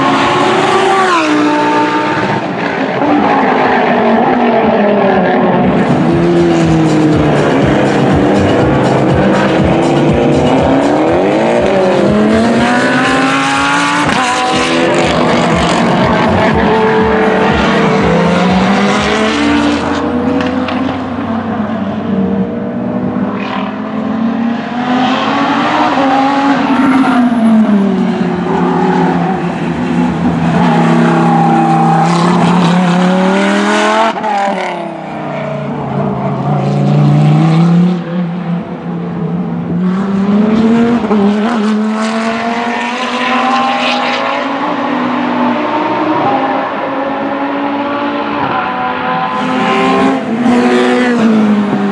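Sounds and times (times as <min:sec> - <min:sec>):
racing car engine accelerating: 0:00.0 - 0:51.9.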